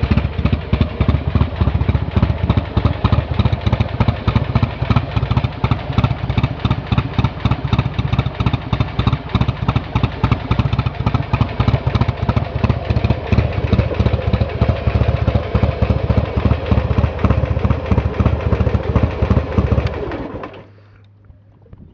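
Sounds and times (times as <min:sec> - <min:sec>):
motorcycle engine idling: 0:00.0 - 0:20.7.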